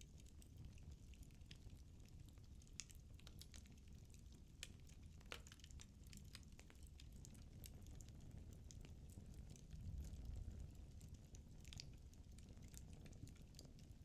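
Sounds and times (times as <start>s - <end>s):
fire crackling and popping: 0.1s - 14.0s
low rumble of flames: 0.2s - 14.0s.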